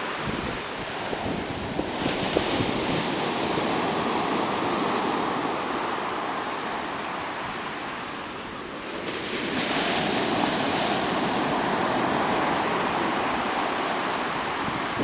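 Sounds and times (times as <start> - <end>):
waves breaking: 0.0 - 15.0.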